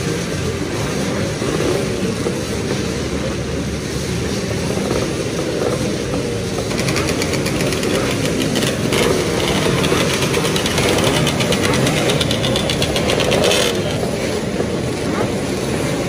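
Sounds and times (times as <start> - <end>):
two-stroke motorcycle engine idling: 0.0 - 16.0.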